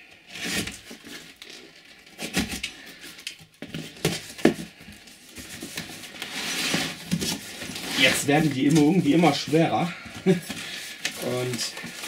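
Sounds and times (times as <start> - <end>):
cardboard crackling and scraping: 0.2 - 12.0.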